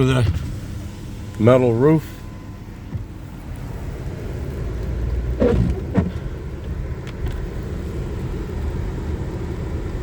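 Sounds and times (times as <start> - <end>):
car road noise rumble: 0.0 - 10.0.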